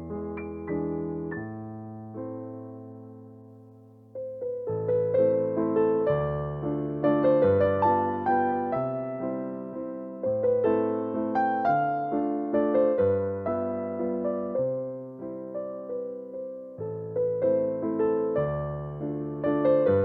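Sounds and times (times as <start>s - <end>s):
slow piano melody: 0.0s - 20.0s.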